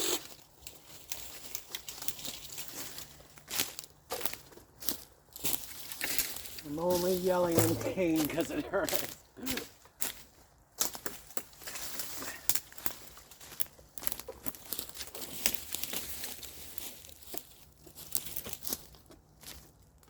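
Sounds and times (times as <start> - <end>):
dry leaves rustling and crackling: 0.2 - 20.0.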